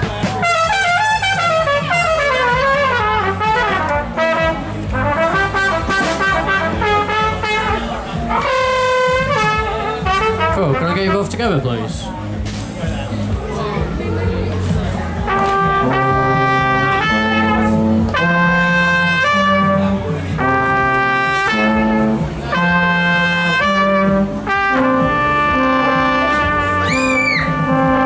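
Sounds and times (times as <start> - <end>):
trumpet and trombone playing: 0.0 - 11.9, 15.2 - 28.0.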